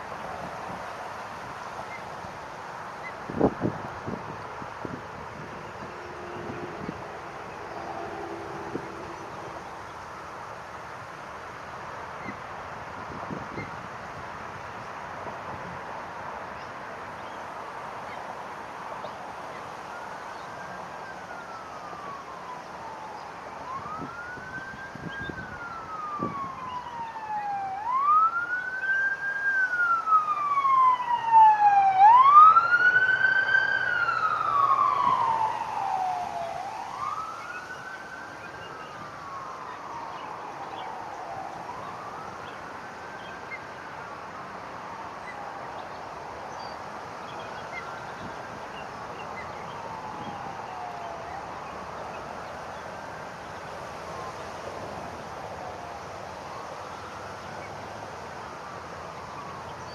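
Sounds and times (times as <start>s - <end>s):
wailing siren: 3.1s - 11.6s, 17.5s - 59.9s.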